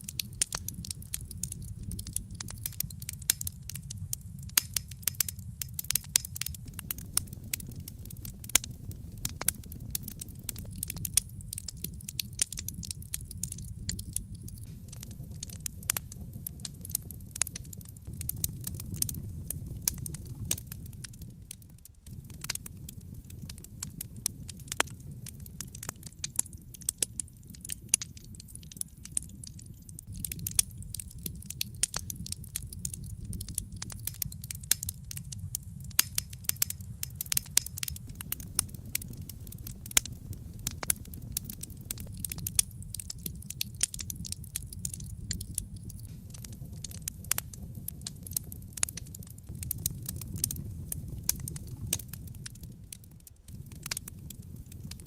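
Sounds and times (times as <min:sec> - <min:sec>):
low rumble of flames: 0:00.0 - 0:55.0
wood fire popping and snapping: 0:00.0 - 0:55.0.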